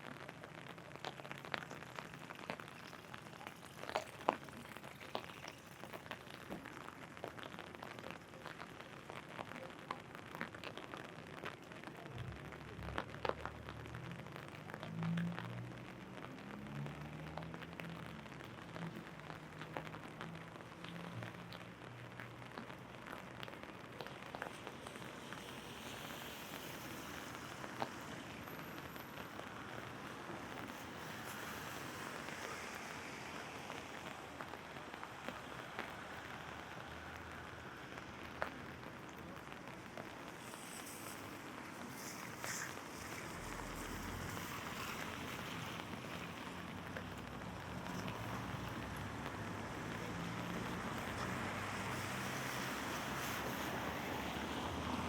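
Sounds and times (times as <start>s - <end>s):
rain pattering on an umbrella: 0.0s - 55.0s.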